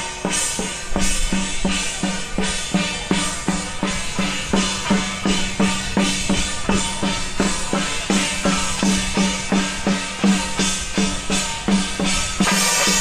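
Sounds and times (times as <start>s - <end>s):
steady drumbeat: 0.0s - 13.0s.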